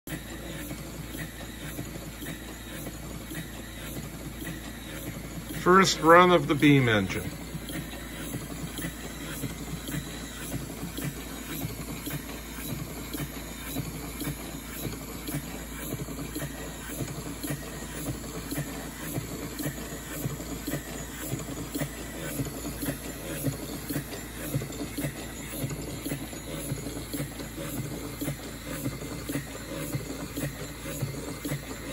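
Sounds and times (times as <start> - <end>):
steam engine chuffing: 0.1 - 31.9.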